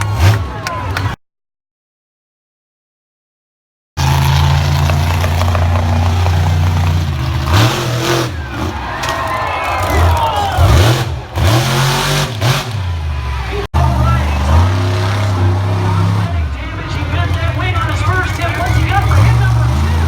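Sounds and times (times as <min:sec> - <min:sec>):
monster truck engine revving: 0:00.0 - 0:01.2, 0:04.0 - 0:20.0.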